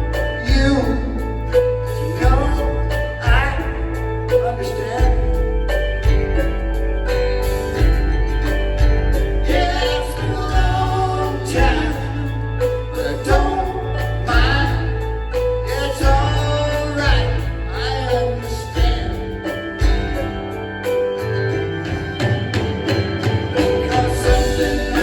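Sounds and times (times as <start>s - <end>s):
person singing: 0.0s - 7.1s, 9.1s - 21.1s, 23.5s - 25.0s
live rock band playing: 0.0s - 25.0s.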